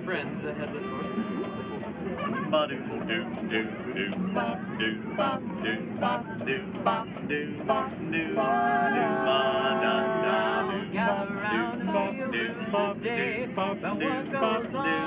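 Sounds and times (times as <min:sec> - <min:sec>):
male quartet singing a cappella: 0:02.5 - 0:15.0.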